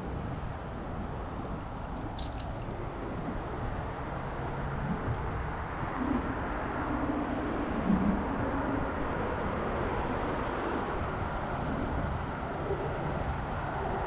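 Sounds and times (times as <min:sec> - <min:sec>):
low engine-like tone: 0:00.0 - 0:14.0
passing vehicles: 0:00.0 - 0:14.0.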